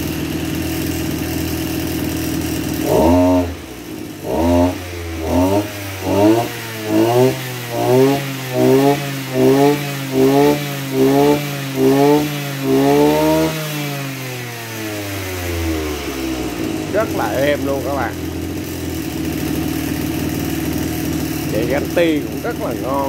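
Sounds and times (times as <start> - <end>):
brush cutter engine revving: 0.0 - 23.0.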